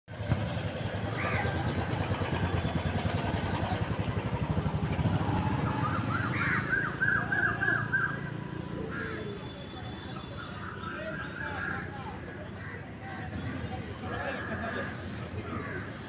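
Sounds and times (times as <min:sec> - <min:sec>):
engine rumbling: 0:00.1 - 0:16.0.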